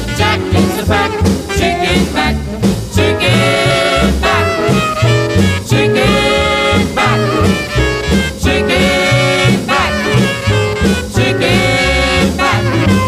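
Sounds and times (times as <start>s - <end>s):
horn section playing riffs: 0.0s - 13.0s
pulsing bass line: 0.0s - 13.0s.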